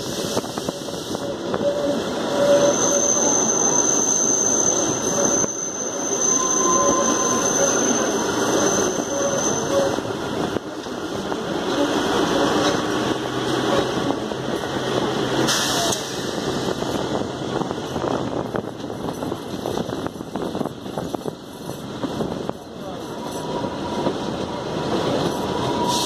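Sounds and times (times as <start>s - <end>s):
train carriages rumbling and rattling: 0.0s - 26.0s.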